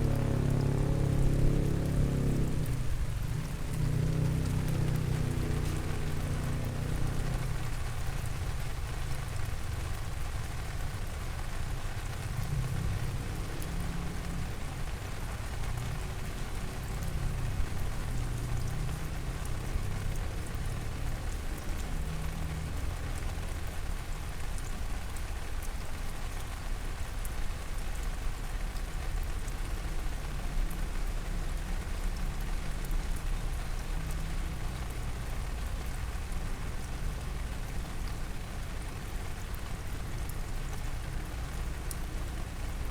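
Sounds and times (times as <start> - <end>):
raindrops ticking: 0.0 - 42.9
steady rain falling: 0.0 - 42.9.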